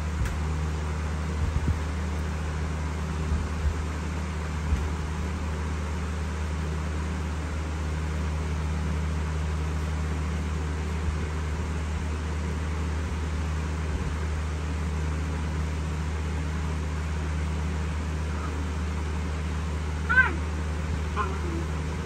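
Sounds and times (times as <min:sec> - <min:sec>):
machine hum with hiss: 0:00.0 - 0:22.0.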